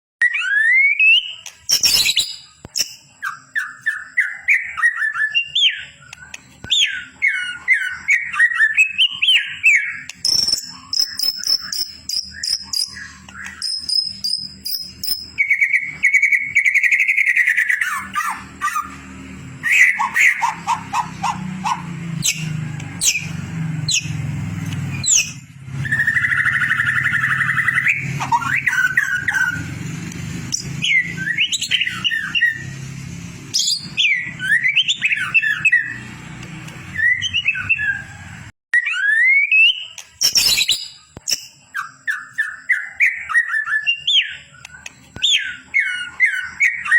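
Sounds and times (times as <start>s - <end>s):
bird singing whistles and trills: 0.2s - 29.8s, 30.4s - 32.9s, 33.5s - 36.2s, 36.8s - 38.2s, 38.8s - 46.9s.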